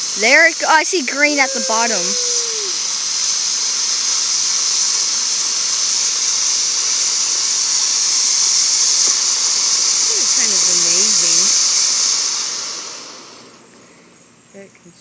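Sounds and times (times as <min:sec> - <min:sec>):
firework fountain hissing: 0:00.0 - 0:14.6.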